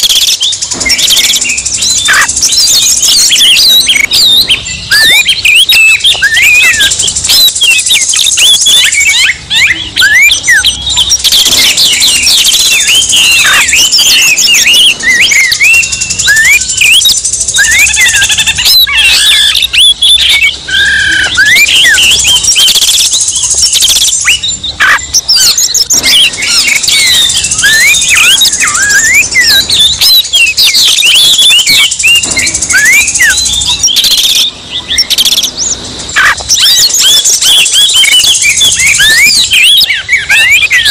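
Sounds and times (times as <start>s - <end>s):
birds singing loudly: 0.0s - 40.9s.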